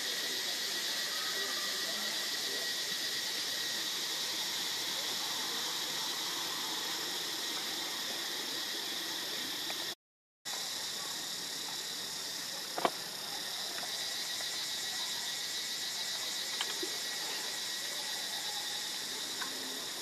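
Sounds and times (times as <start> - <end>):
insect chorus droning: 0.0 - 20.0.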